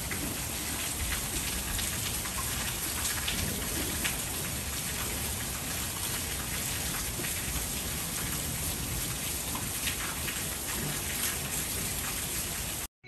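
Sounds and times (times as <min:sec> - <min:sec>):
heavy rain pattering: 0:00.0 - 0:12.9.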